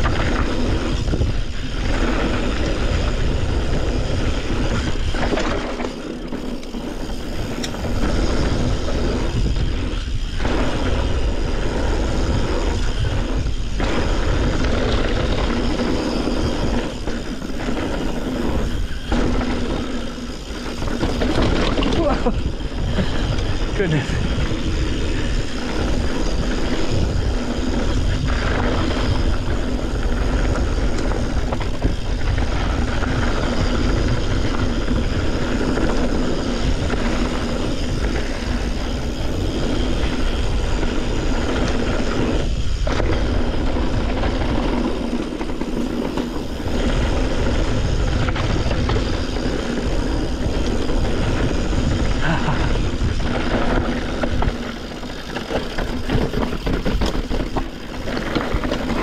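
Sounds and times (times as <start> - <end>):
mountain bike rattling on dirt trail: 0.0 - 59.0
wind buffeting microphone: 0.0 - 59.0.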